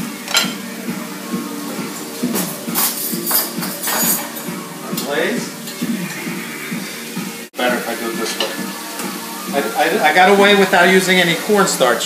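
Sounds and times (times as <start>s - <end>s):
food sizzling in frying pans: 0.0s - 12.0s.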